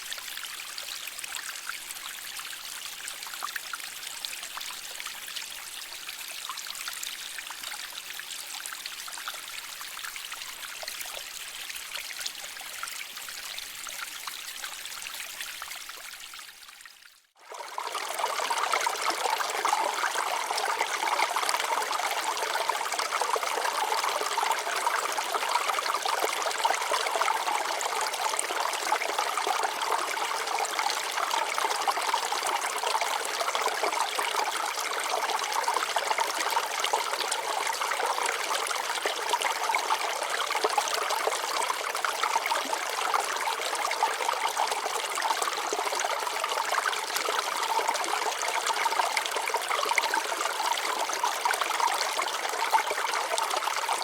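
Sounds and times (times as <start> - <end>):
stream water trickling over rocks: 0.0 - 54.0.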